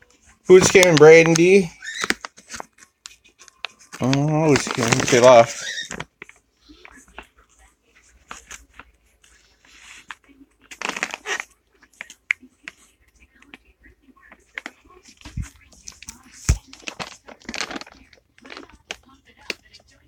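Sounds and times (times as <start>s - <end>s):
crinkling and rustling handling: 0.0s - 20.0s.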